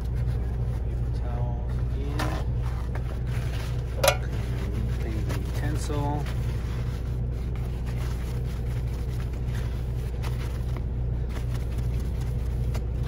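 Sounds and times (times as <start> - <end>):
paper towels rustling: 0.0 - 13.0.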